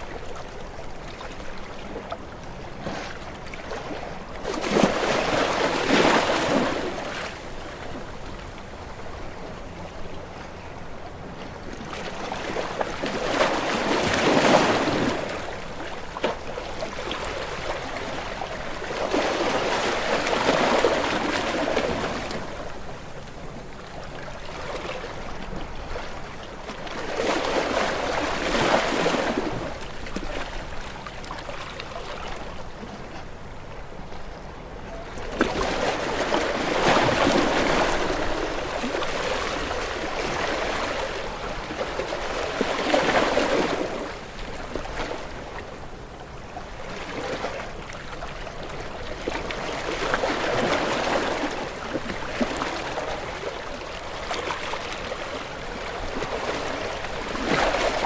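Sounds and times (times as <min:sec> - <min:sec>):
sea waves surging: 0:00.0 - 0:58.0.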